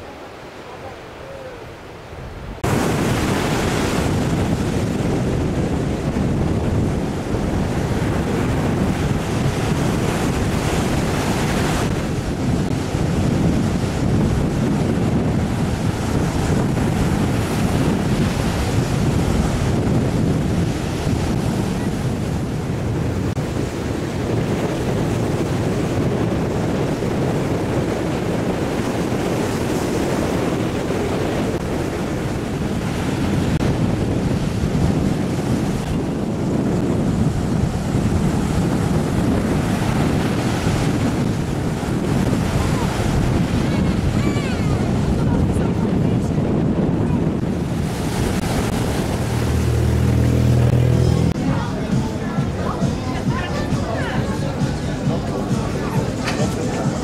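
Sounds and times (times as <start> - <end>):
surf washing up a beach: 0.0 - 57.0
wind buffeting microphone: 0.0 - 57.0.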